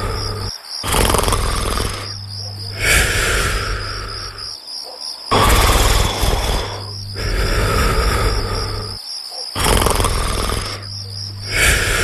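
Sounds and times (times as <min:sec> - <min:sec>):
cartoon snoring: 0:00.0 - 0:04.6, 0:05.3 - 0:12.0
crickets chirping: 0:00.0 - 0:12.0.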